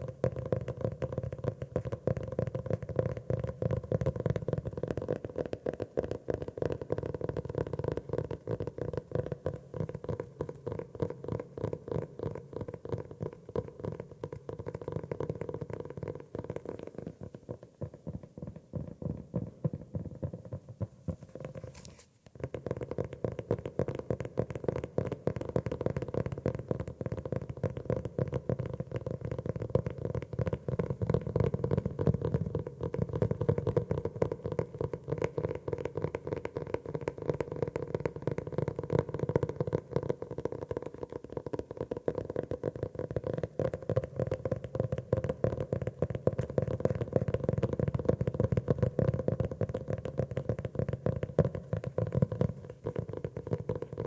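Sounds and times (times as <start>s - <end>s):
rapid tapping on notebook: 0.0s - 54.0s.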